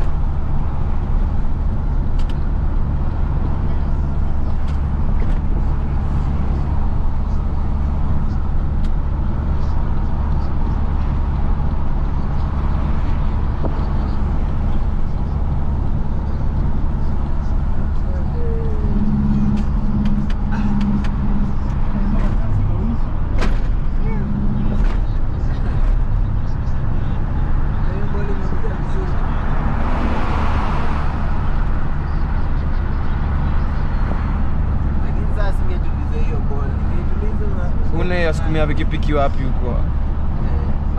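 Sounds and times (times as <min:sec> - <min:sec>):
road and traffic noise: 0:00.0 - 0:40.9
truck diesel engine droning: 0:00.0 - 0:40.9.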